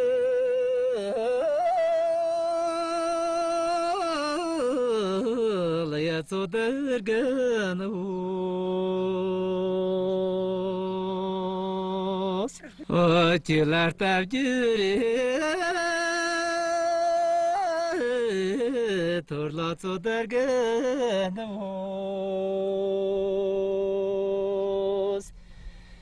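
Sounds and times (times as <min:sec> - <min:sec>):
man singing folk song: 0:00.0 - 0:25.4.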